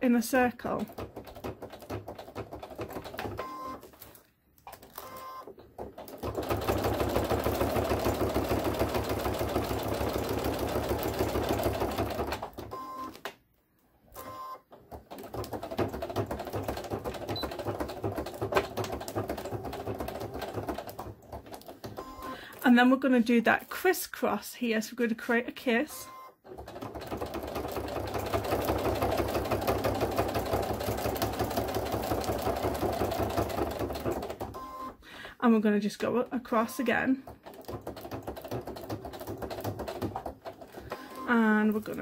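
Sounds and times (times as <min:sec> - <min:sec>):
sewing machine stitching: 0:00.6 - 0:13.1, 0:14.2 - 0:22.6, 0:26.4 - 0:35.0, 0:36.5 - 0:42.0.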